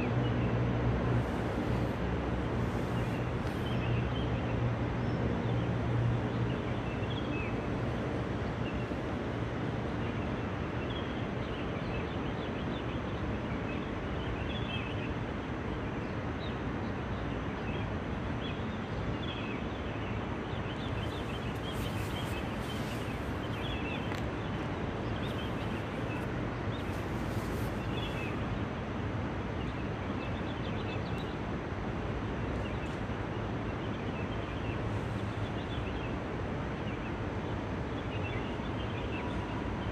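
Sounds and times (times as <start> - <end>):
continuous low rumble: 0.0 - 11.6, 17.9 - 39.9.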